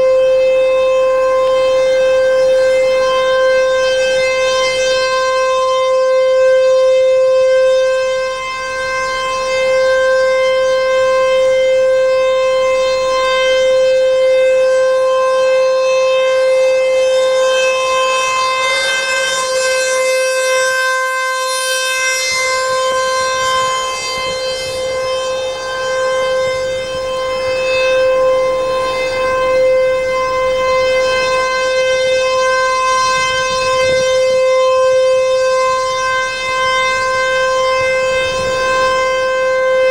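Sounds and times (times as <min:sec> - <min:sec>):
tornado siren tone: 0:00.0 - 0:39.9.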